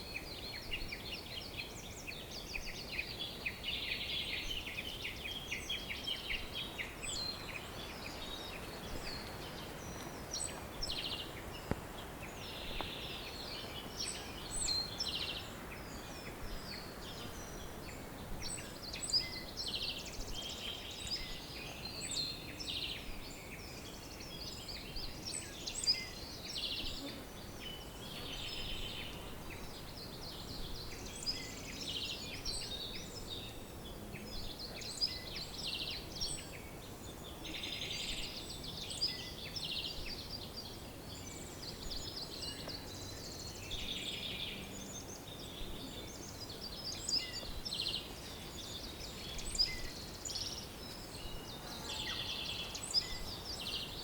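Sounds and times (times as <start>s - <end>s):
faint steady hiss: 0.0s - 54.0s
songbirds singing: 0.0s - 54.0s.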